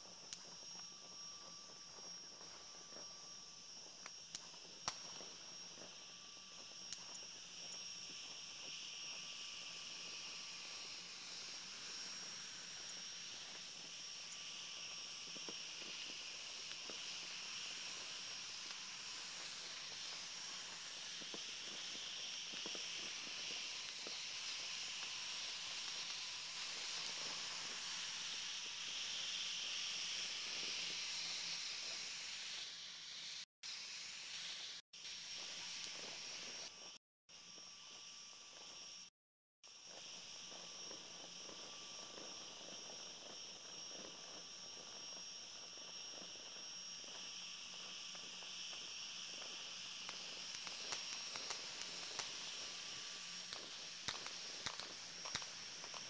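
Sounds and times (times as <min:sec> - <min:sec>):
insects chirring: 0:00.0 - 0:32.7, 0:39.8 - 0:56.0.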